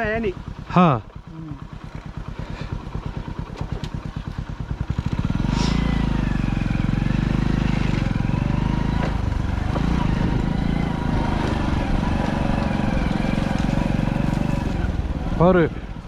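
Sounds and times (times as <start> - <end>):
motorcycle engine pulling away: 0.0 - 16.0.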